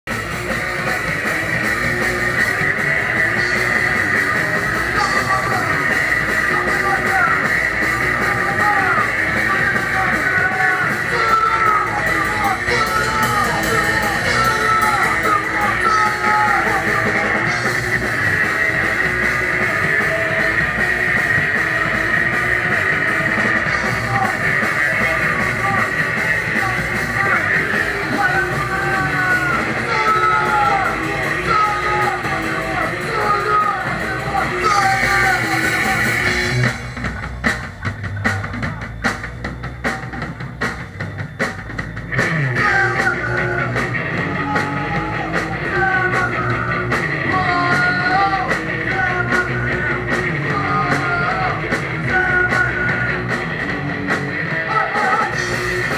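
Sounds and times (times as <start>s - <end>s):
live rock band playing: 0.1s - 55.9s.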